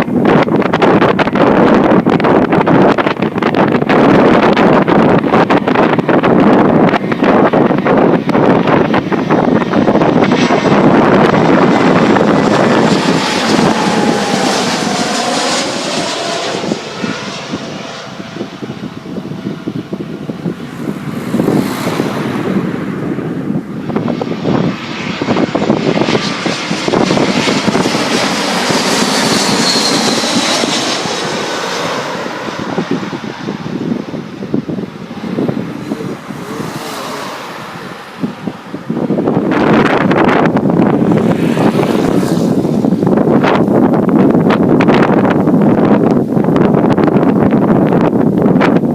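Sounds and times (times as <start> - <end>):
jet engine whine: 0.0 - 48.9
jet engines roaring: 0.0 - 48.9.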